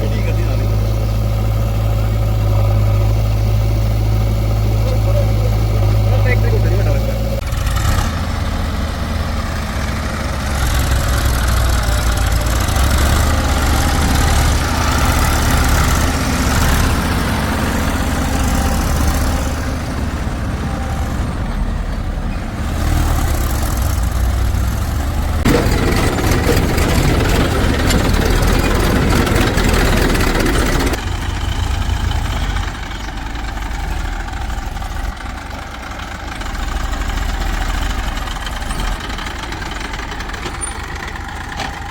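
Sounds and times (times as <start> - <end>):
diesel engines working: 0.0 - 41.9.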